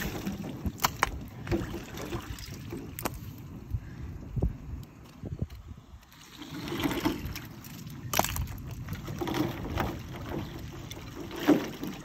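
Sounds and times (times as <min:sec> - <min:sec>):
water sloshing: 0:00.0 - 0:03.6, 0:05.6 - 0:12.0.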